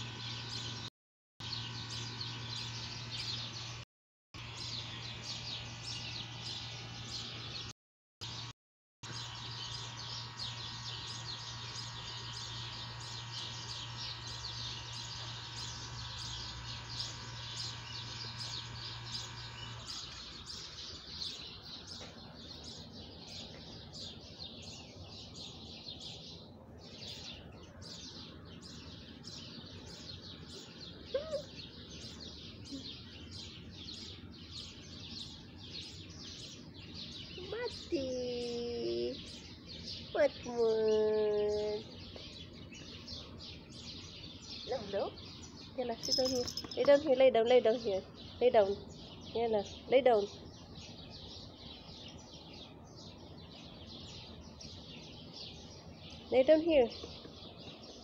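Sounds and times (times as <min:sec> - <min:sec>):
bird chirping: 0:00.0 - 0:03.8, 0:04.4 - 0:58.0.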